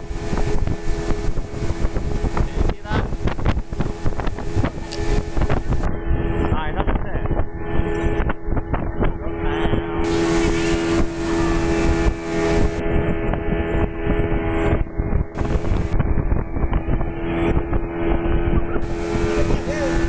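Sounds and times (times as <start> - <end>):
outboard motor droning: 0.0 - 20.0
water rushing past hull: 0.0 - 20.0
wind buffeting microphone: 0.0 - 20.0.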